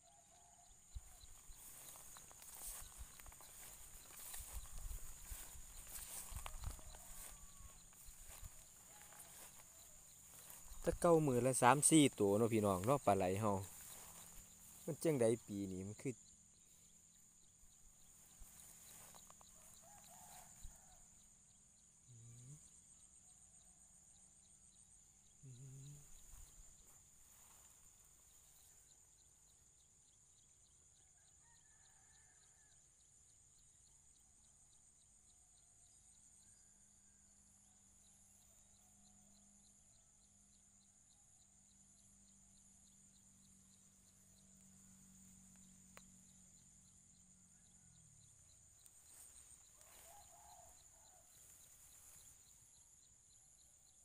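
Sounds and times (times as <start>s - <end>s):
night insects trilling: 0.0s - 29.8s, 33.5s - 54.0s.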